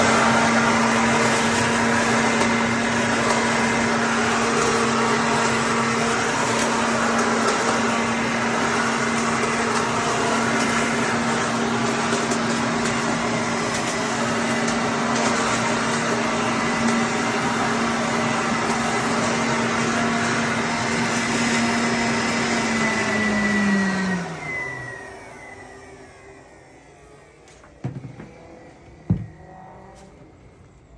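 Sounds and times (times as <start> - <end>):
vacuum cleaner motor running: 0.0 - 30.9
vacuum cleaner spinning down: 0.0 - 30.9.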